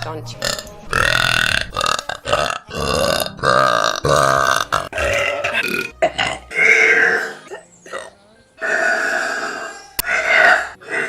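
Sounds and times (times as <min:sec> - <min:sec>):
woman burping loudly: 0:00.4 - 0:11.0.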